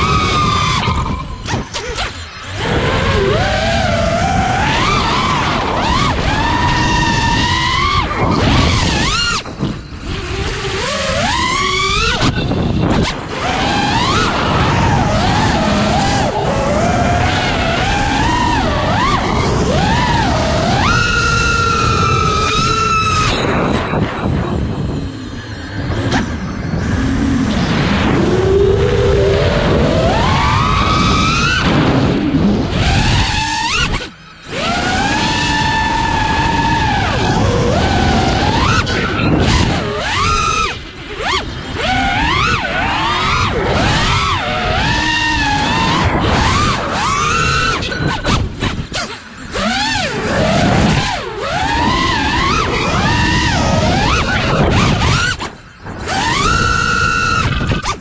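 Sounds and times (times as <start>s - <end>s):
drone motors whining: 0.0s - 58.0s
wind rush: 0.0s - 58.0s.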